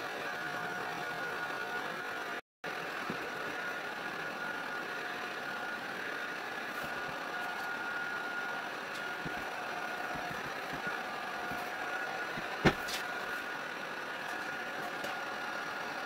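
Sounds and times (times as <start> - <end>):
mechanical whir: 0.0 - 16.0.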